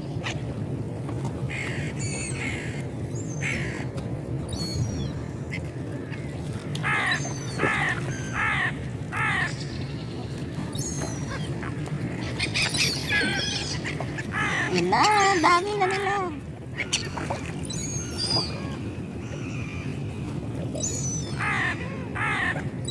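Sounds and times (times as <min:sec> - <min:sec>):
gulls calling: 0:04.5 - 0:22.9.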